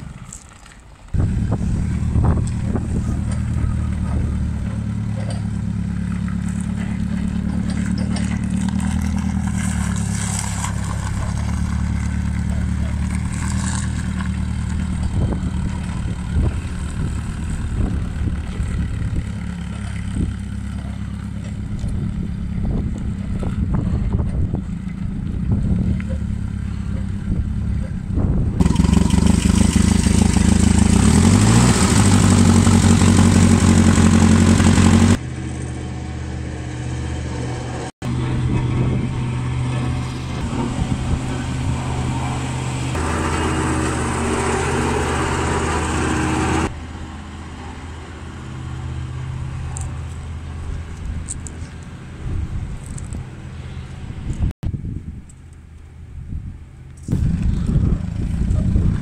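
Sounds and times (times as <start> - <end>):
tyres on gravel: 0.0 - 54.5
forklift engine running and revving: 1.1 - 54.6, 56.8 - 59.0.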